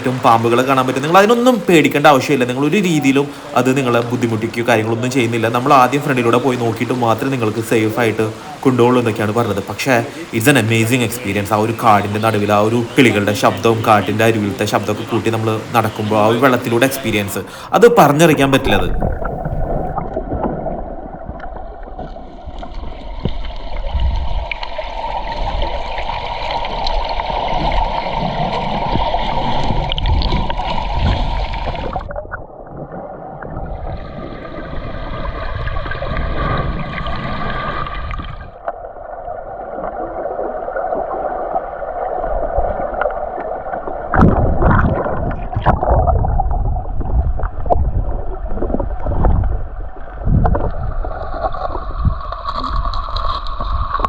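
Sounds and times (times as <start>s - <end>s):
river water gurgling and splashing: 0.0s - 54.0s.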